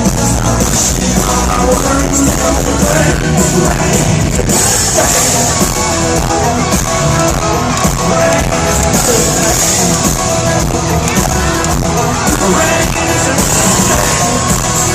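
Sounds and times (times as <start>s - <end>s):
live country-rock band playing: 0.0s - 14.9s.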